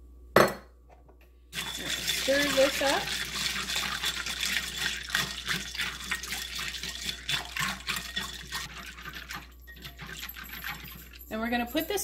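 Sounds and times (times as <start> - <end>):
ice and whisk clinking on glass: 1.6 - 12.0
liquid sloshing in bowl: 1.6 - 12.0.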